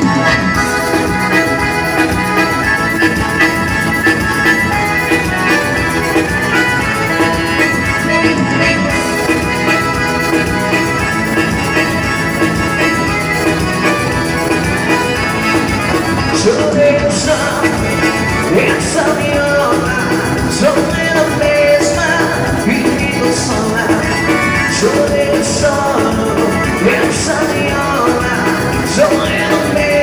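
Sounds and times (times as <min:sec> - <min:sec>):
accordion dance music: 0:00.0 - 0:30.0
steady drum beat: 0:00.0 - 0:30.0.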